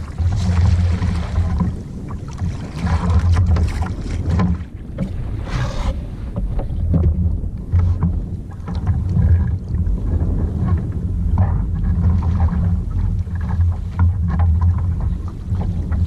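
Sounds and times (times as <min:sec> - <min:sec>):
water splashing and lapping: 0:00.0 - 0:16.0
wind buffeting microphone: 0:00.0 - 0:16.0.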